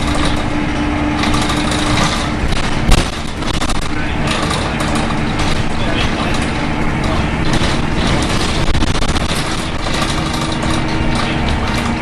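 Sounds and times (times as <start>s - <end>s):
bus engine and road noise: 0.0s - 12.0s
rattling clatter: 0.0s - 12.0s.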